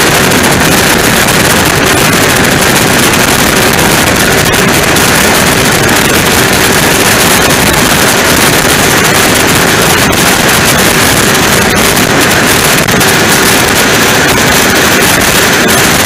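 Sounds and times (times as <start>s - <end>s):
powerboat engines rushing: 0.0s - 16.0s
wind buffeting microphone: 0.0s - 16.0s.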